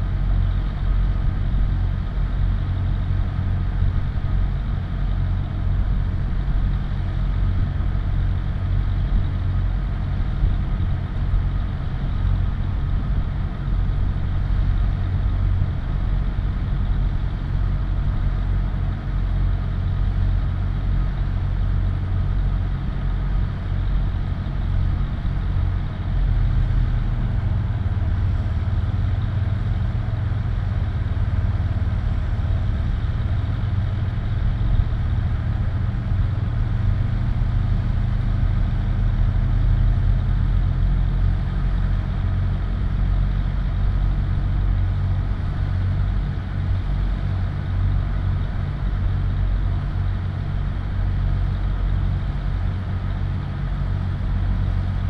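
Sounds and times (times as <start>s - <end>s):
engine idling hum: 0.0s - 55.0s.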